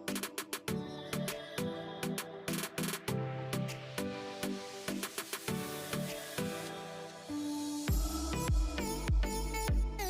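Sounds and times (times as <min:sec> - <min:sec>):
electronic music with kick drum: 0:00.0 - 0:06.7, 0:07.9 - 0:10.0.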